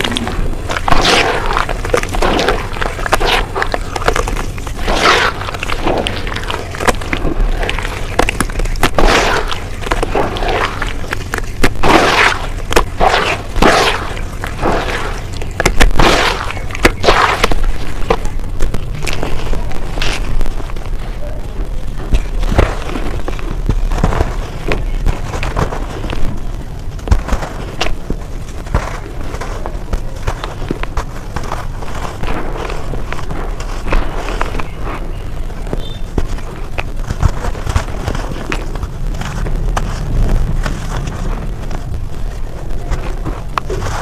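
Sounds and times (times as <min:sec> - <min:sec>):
gritty dirt crunching: 0:00.0 - 0:44.0.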